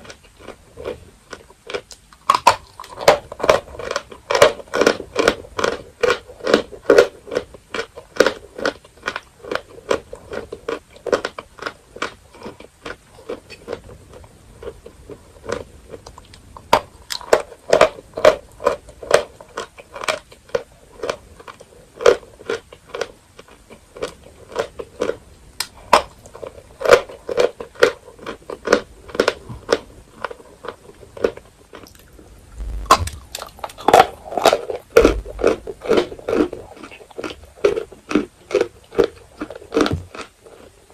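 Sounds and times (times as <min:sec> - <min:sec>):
chalk crunching while chewed: 0:00.0 - 0:40.9.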